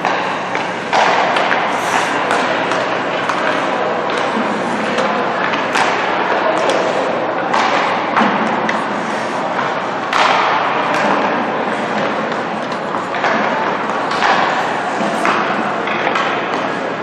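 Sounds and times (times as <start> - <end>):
crowd chatter: 0.0 - 17.0
hockey sticks and puck knocking: 0.0 - 17.0.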